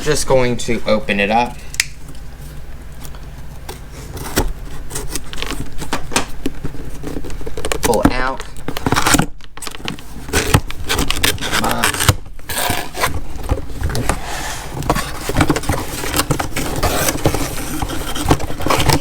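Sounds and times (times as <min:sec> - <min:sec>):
cardboard packaging scraping and rustling: 0:02.3 - 0:19.0.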